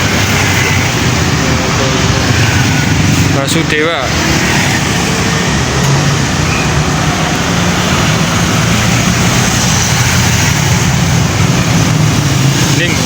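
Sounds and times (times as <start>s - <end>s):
diesel engine running: 0.0s - 13.0s
tyre and road noise: 0.0s - 13.0s.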